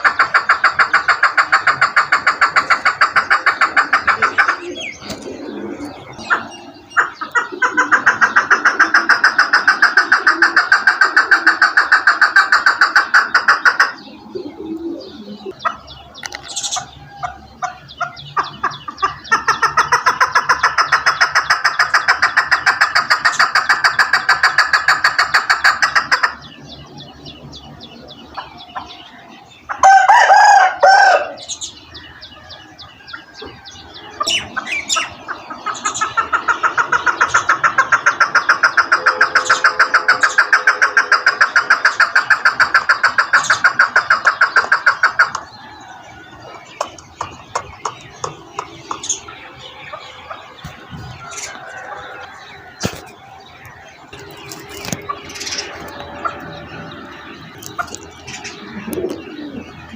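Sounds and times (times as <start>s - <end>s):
partridge calling: 0.0s - 59.9s.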